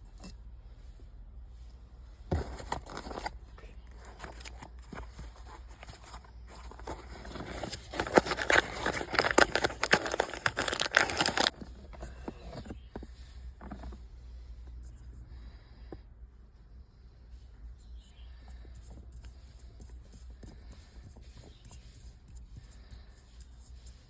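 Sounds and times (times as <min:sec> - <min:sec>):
hands crinkling and rustling parts: 0:00.0 - 0:15.3, 0:17.7 - 0:24.0
steady low hum: 0:00.0 - 0:24.0.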